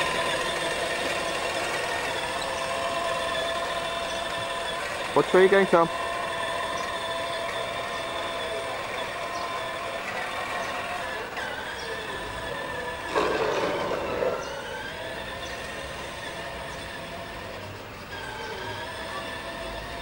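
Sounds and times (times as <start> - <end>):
toy motorbike electric motor whining: 0.0 - 20.0.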